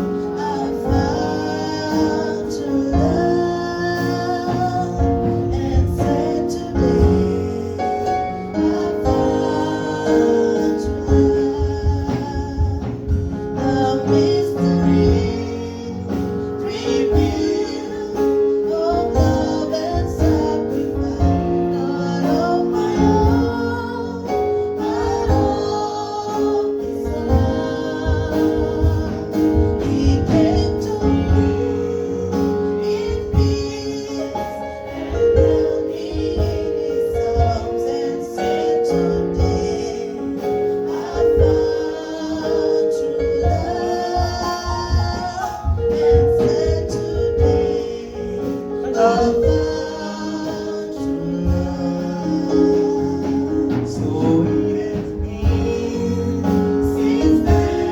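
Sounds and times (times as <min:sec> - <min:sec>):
instruments with steady beat: 0:00.0 - 0:57.9
voices singing gospel: 0:00.0 - 0:57.9.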